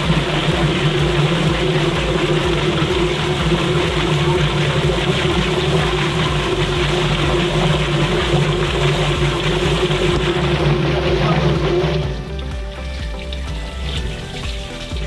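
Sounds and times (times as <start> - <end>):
plucker motor hum: 0.0 - 15.0
water spraying: 0.0 - 15.0.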